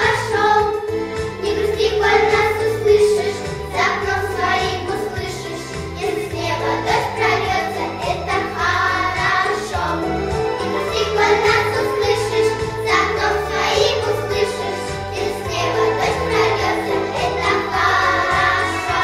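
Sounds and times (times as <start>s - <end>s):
children singing: 0.0s - 19.0s
instrumental accompaniment: 0.0s - 19.0s.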